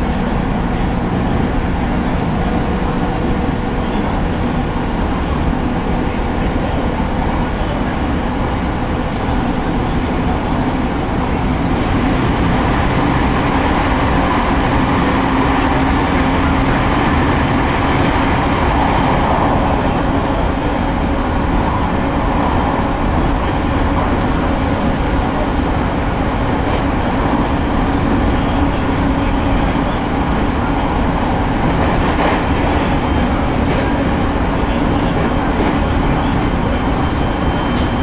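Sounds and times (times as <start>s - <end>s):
low train hum: 0.0s - 38.0s
train wheels on rails: 0.0s - 38.0s.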